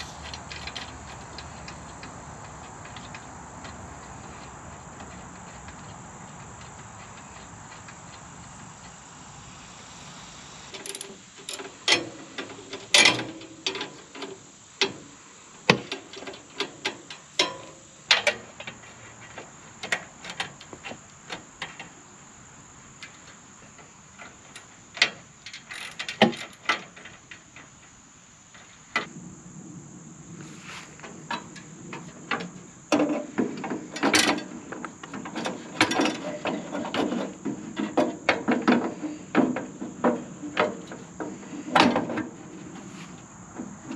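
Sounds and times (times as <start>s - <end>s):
insects droning: 0.0s - 43.9s.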